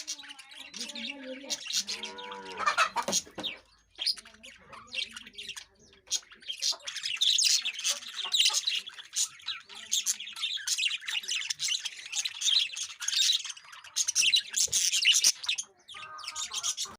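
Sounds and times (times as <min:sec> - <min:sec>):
lovebirds chirping and squawking: 0:00.0 - 0:16.9.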